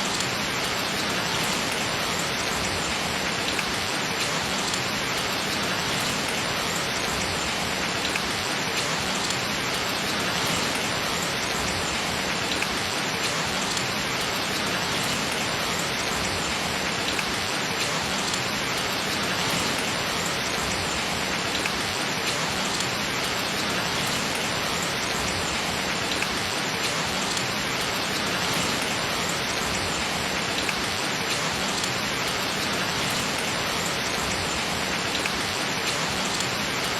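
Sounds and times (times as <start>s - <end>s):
faint taps of raindrops: 0.0s - 36.9s
gentle rain hissing: 0.0s - 36.9s.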